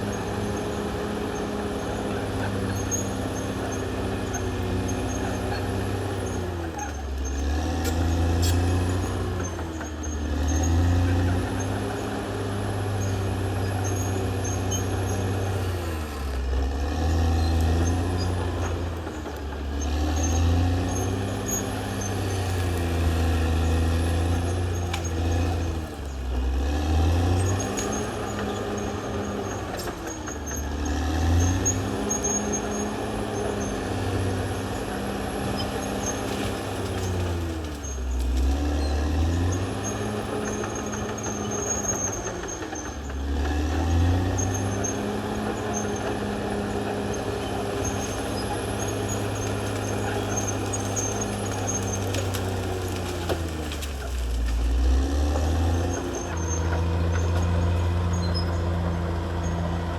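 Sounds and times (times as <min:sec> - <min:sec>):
bulldozer diesel engine running hard: 0:00.0 - 0:59.9.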